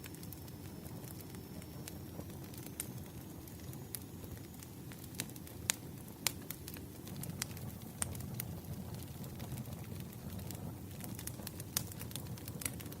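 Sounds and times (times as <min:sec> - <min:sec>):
fire rumbling: 0:00.0 - 0:13.0
firewood crackles and pops: 0:00.0 - 0:13.0.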